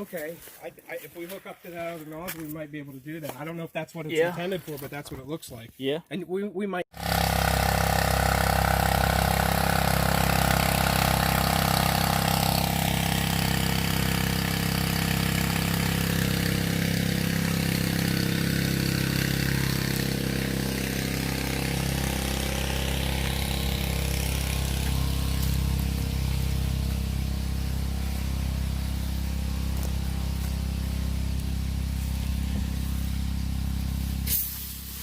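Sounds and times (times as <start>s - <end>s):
small engine driving water pump: 6.9s - 35.0s.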